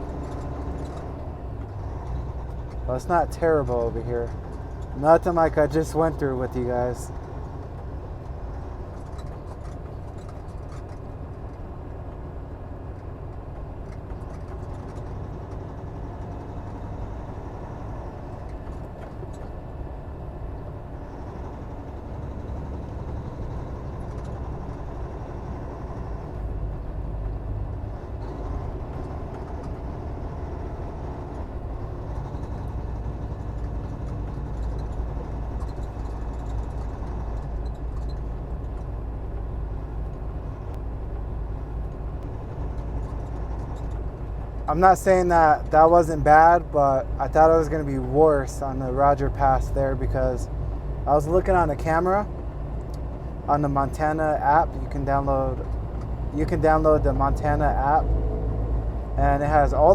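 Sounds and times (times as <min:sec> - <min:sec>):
diesel truck engine running: 0:00.0 - 0:59.9
road rumble: 0:00.0 - 0:59.9.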